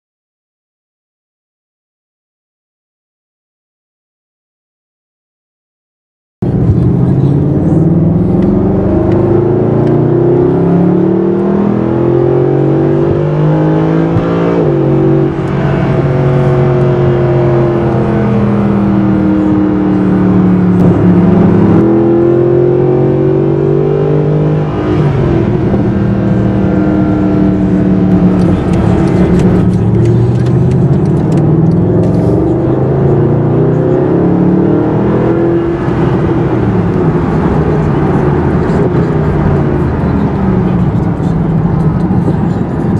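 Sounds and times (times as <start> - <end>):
car engine accelerating: 6.4 - 42.9.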